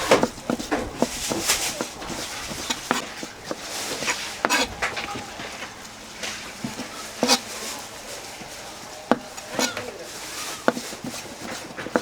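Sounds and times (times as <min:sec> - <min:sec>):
knife scraping on cutting board: 0:00.0 - 0:12.0.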